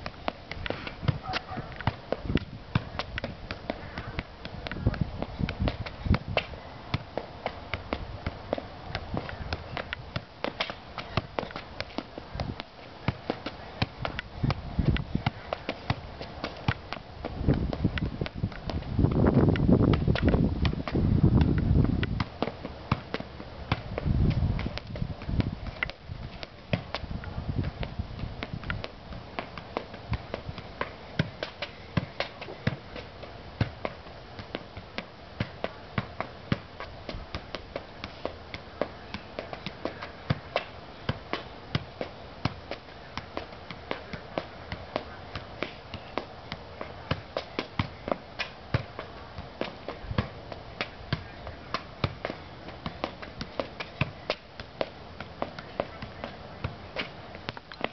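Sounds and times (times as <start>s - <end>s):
ball being juggled sharp taps: 0.0s - 57.9s.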